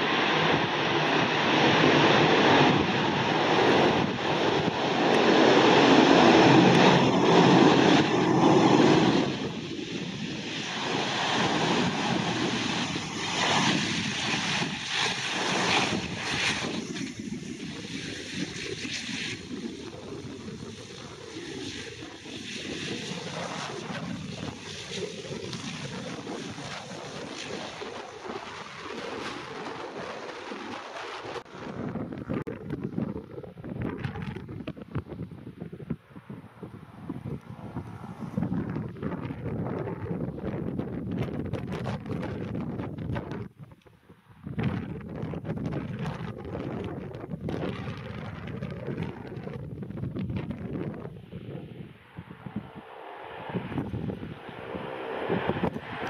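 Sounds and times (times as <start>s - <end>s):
turboprop aircraft taxiing: 0.0s - 44.0s, 44.8s - 56.0s
wind buffeting microphone: 0.0s - 56.0s.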